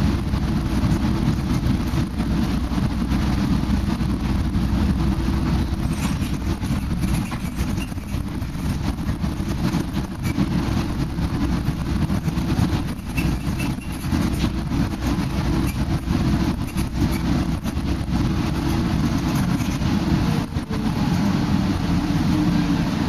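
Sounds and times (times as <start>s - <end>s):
bus engine and road rumble: 0.0s - 23.0s.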